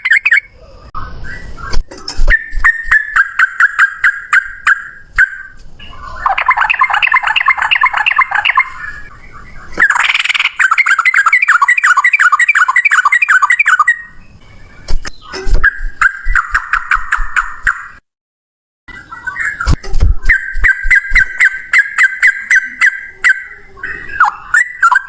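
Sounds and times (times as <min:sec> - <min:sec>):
bird singing rapid repeated notes: 0:00.0 - 0:18.0, 0:18.9 - 0:25.0.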